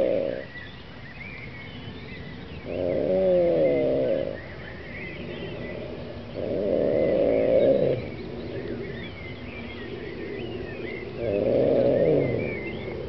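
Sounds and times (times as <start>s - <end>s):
animal calling low and rough: 0.0s - 0.7s, 2.4s - 13.0s
birds chirping: 0.0s - 13.0s.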